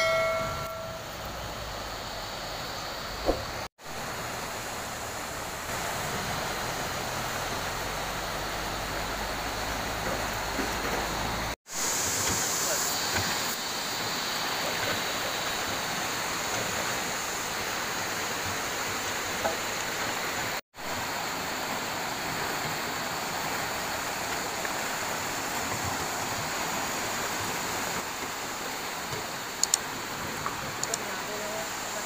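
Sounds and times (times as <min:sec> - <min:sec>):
river water rushing over rocks: 0:00.0 - 0:32.0.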